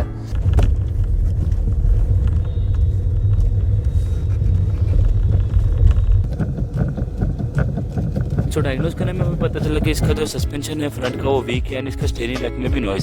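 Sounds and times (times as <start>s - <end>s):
suspension knocks: 0.0s - 12.2s
tyres rumbling on rough road: 0.0s - 13.0s.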